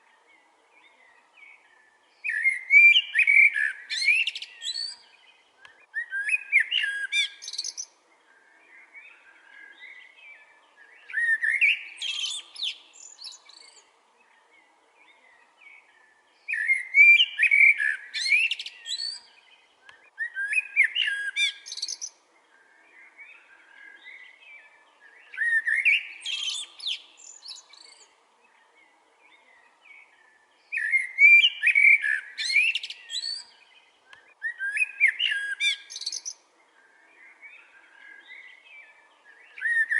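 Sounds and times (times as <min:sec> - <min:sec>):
faint birdsong: 0:00.0 - 0:39.9
songbird warbling: 0:00.9 - 0:39.9.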